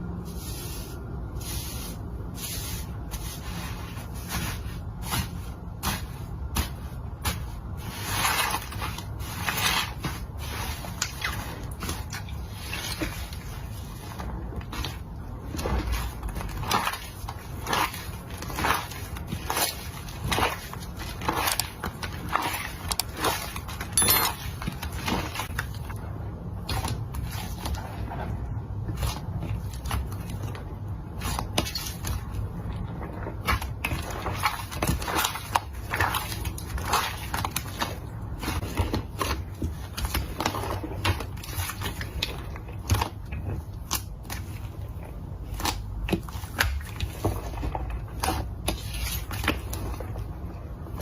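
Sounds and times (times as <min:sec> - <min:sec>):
slime squelching: 0:00.0 - 0:51.0.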